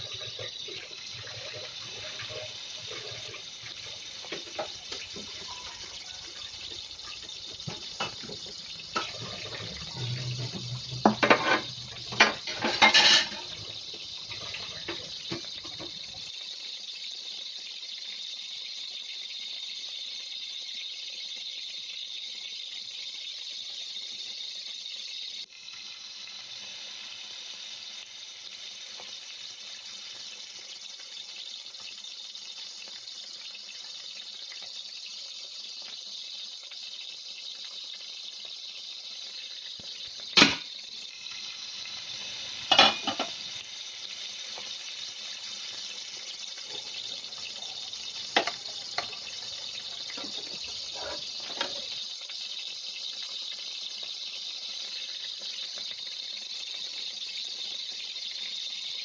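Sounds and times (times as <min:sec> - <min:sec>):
eggs sizzling in a frying pan: 0:00.0 - 0:59.0.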